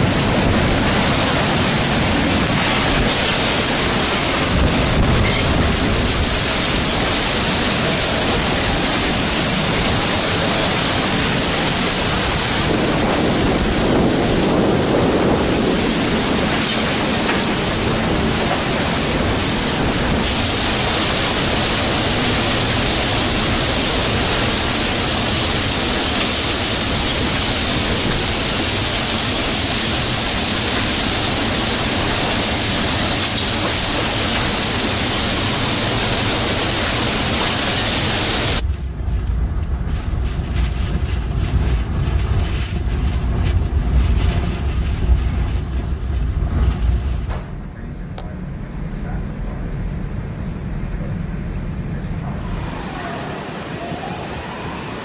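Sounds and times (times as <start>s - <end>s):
strong wind and driving rain: 0.0s - 55.0s.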